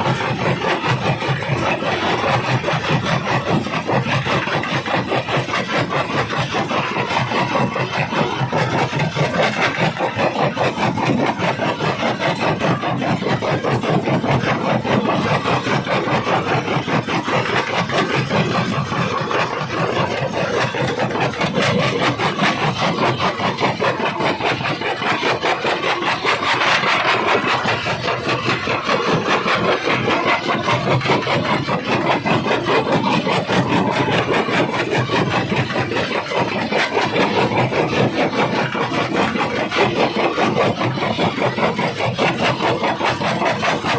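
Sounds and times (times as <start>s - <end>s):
rock crusher crushing stone: 0.2s - 43.9s.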